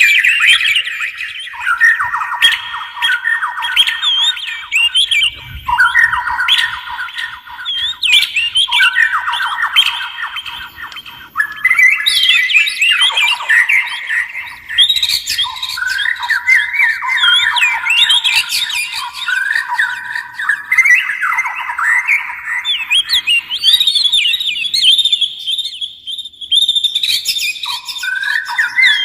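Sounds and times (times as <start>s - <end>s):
birds singing whistled phrases: 0.0s - 29.0s.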